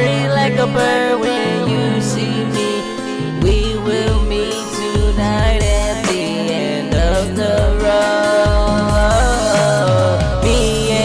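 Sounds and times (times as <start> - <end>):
instrumental music with low beat: 0.0 - 11.0.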